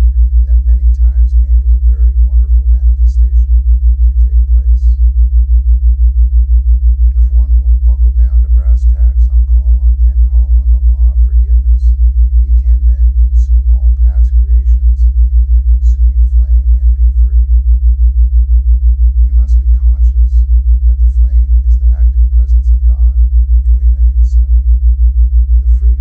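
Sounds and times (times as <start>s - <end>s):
low throbbing pulse tone: 0.0s - 26.0s
faint voice speaking: 0.3s - 5.0s, 7.1s - 17.5s, 19.3s - 24.7s, 25.6s - 26.0s.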